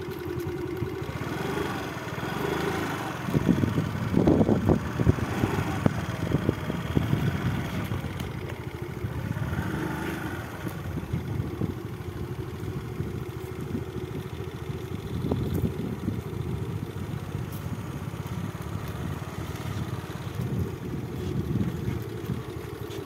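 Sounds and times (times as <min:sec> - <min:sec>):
small engine running at low revs: 0:00.0 - 0:23.0.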